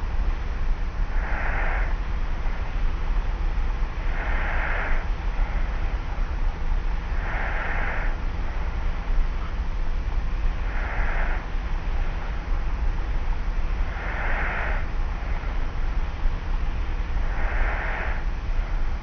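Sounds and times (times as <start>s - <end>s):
tape recorder hum and hiss: 0.0s - 19.0s.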